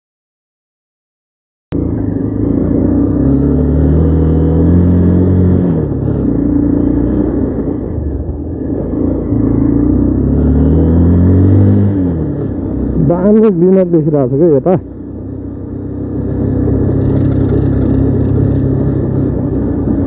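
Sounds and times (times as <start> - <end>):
motorcycle engine accelerating: 1.7 - 20.0.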